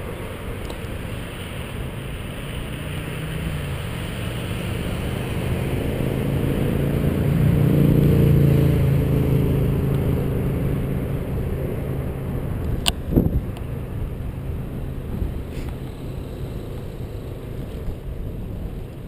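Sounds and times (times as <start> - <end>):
car engine passing: 0.0 - 18.6
low road rumble: 0.0 - 19.0.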